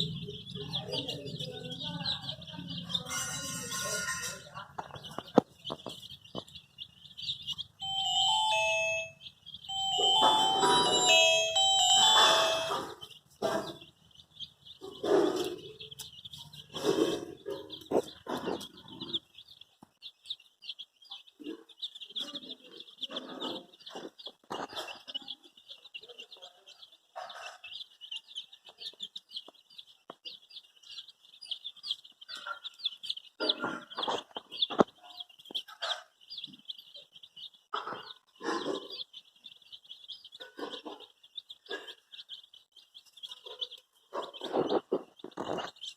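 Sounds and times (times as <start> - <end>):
baby chicks peeping: 0.0 - 45.9.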